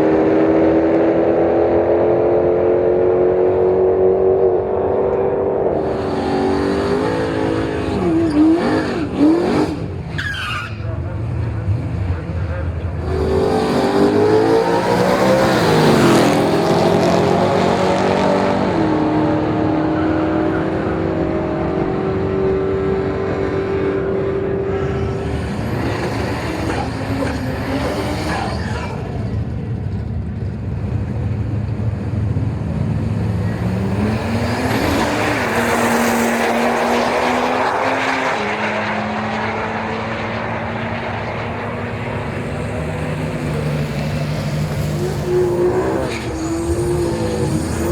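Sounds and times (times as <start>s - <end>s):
race car engines accelerating: 0.0s - 47.9s.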